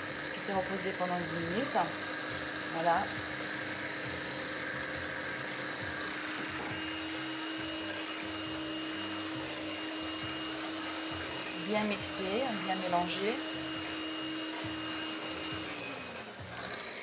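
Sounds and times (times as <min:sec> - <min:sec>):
electric hand mixer whisking: 0:00.0 - 0:17.0.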